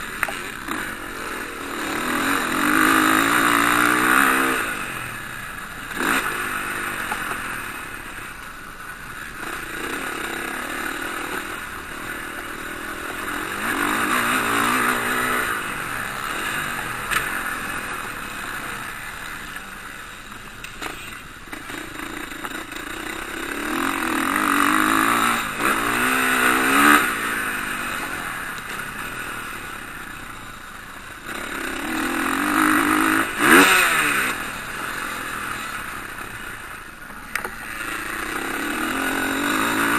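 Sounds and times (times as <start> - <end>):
motocross bikes revving past: 0.0 - 8.4, 9.1 - 20.1, 20.7 - 39.9.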